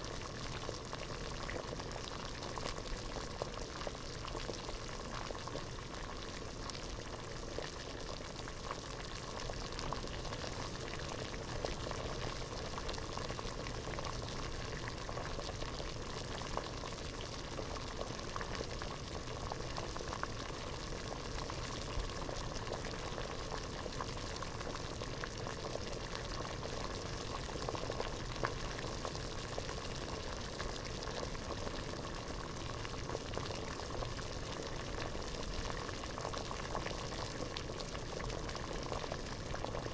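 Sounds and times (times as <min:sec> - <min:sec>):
water boiling in a pot: 0:00.0 - 0:39.9.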